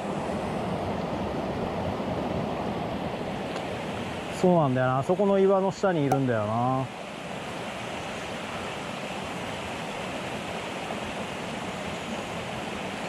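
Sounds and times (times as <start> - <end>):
stream rushing water: 0.0 - 13.0.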